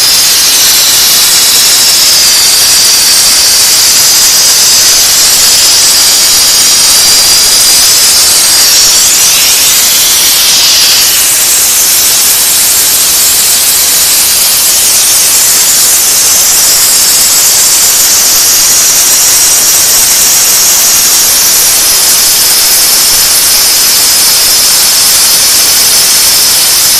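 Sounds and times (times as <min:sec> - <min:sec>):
steam machine hissing: 0:00.0 - 0:26.9.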